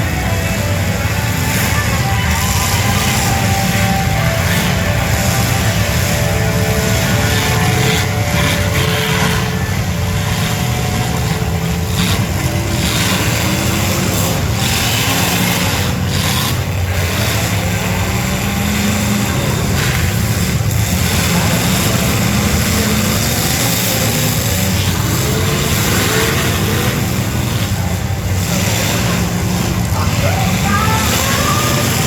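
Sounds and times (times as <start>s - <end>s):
car engines running loud: 0.0s - 32.0s.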